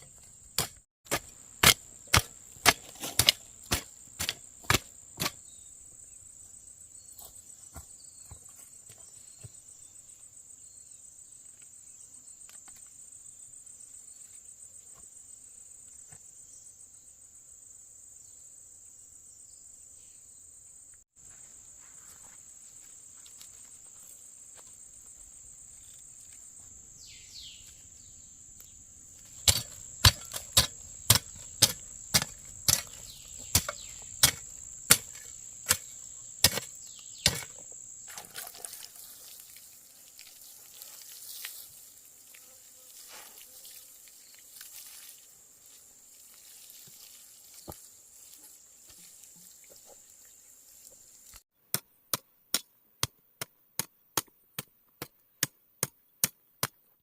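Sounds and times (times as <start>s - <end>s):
insects trilling: 0.1s - 51.4s.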